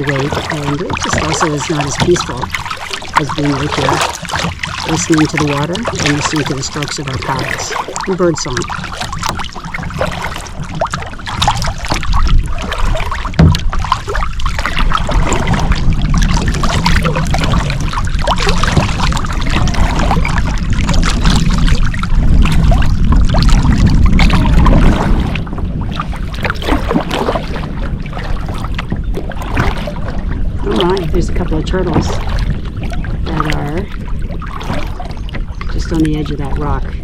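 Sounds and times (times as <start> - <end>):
low rumble: 0.0 - 37.0
paddle splashing in water: 0.0 - 37.0.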